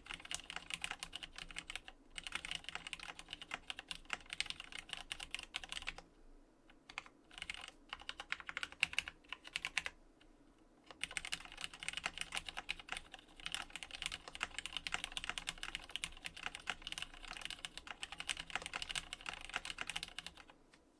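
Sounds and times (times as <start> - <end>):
mechanical keyboard typing: 0.0 - 6.0, 6.8 - 10.0, 10.9 - 20.6.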